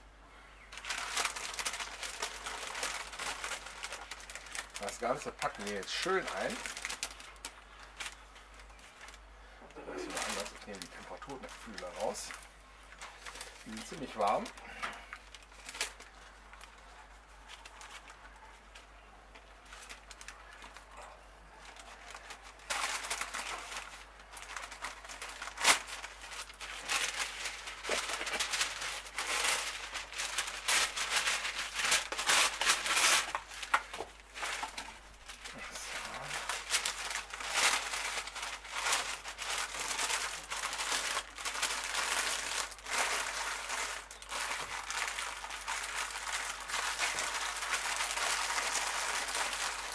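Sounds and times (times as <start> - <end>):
baking paper crinkling: 0.7 - 49.9.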